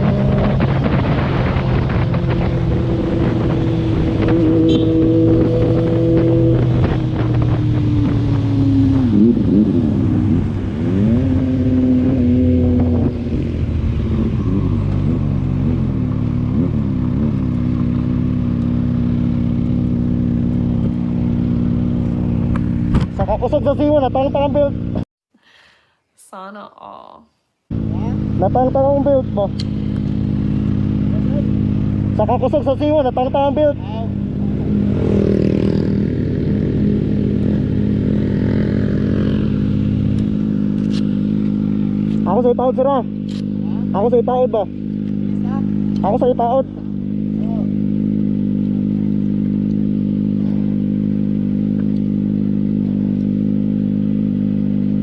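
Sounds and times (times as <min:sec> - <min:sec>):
motorcycle engine revving: 0:00.0 - 0:25.0, 0:27.7 - 0:55.0.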